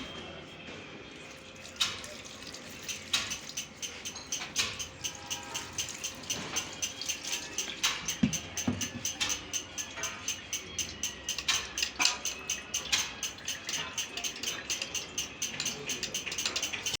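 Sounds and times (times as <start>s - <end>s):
rapid metallic clicking: 1.7s - 17.0s.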